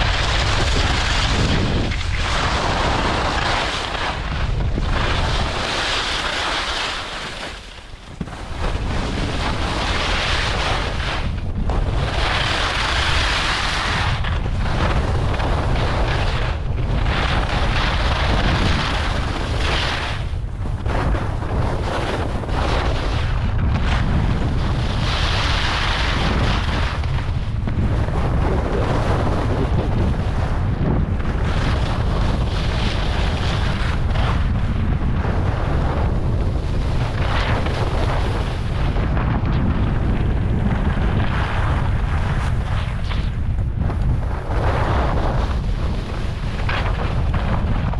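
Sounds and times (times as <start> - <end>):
skis scraping on snow: 0.0 - 27.3, 27.9 - 47.9
wind buffeting microphone: 0.0 - 47.9.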